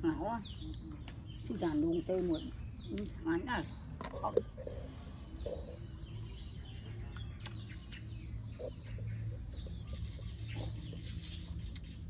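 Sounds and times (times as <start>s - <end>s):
bird chirps: 0.0s - 12.0s
steady low hum: 0.0s - 12.0s.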